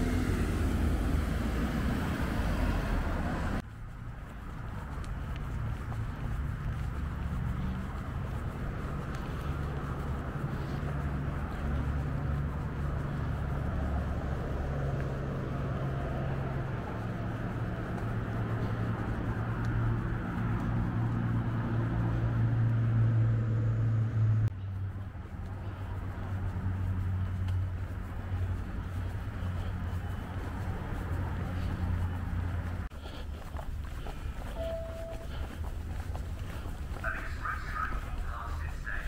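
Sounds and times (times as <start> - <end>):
vehicle interior drone: 0.0 - 39.0.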